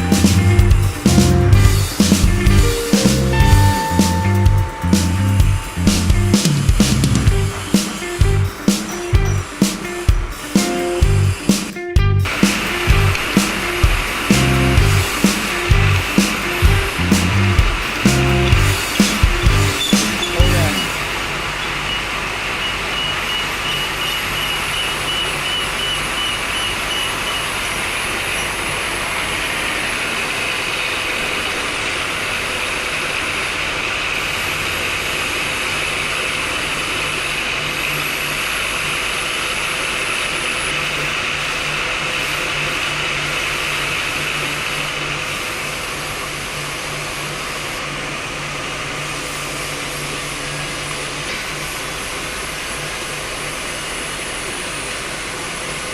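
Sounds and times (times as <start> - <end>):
metal lathe cutting: 0.0 - 11.7, 12.3 - 55.9.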